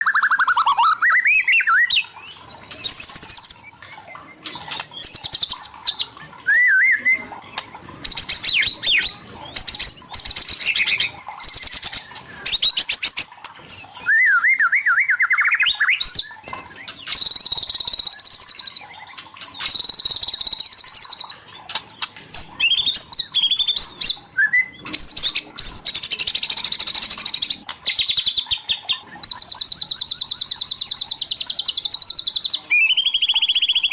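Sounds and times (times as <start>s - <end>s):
bird singing whistles and trills: 0.0s - 33.9s.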